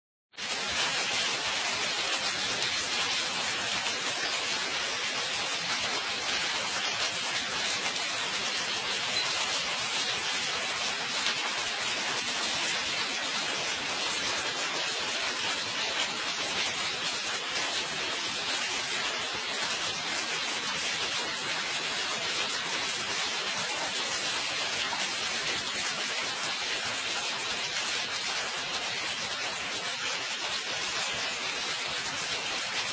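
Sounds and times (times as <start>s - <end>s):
hail and rain pelting pavement: 0.4s - 32.9s.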